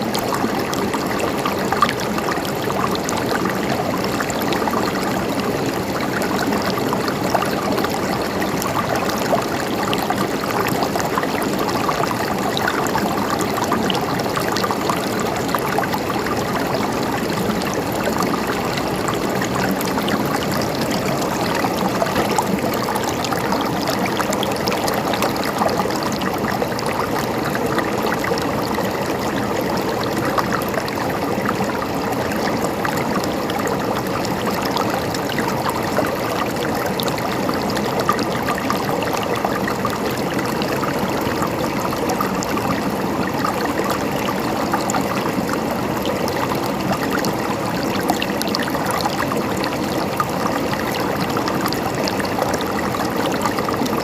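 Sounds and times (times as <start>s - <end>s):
river gurgling over stones: 0.0s - 54.0s.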